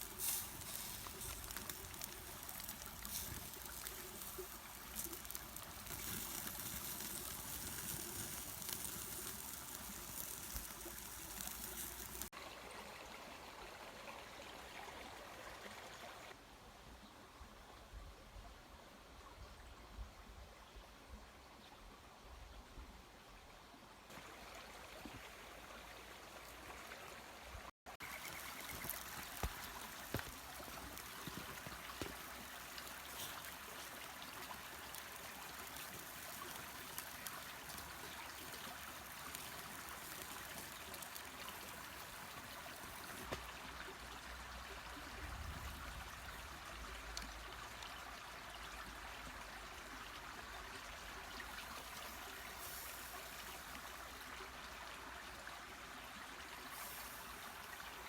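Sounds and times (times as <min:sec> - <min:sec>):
mountain stream running: 0:00.0 - 0:16.4, 0:24.1 - 0:58.0.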